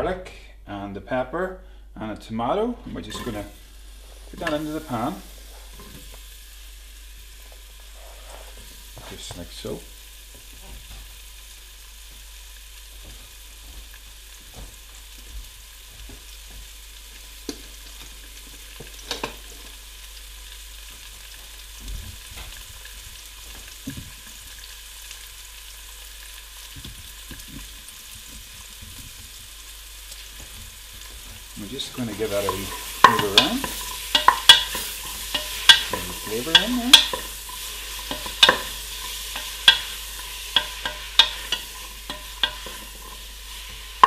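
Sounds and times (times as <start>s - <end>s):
vegetables sizzling in hot oil: 2.9s - 44.0s
oil crackling and popping: 3.4s - 44.0s.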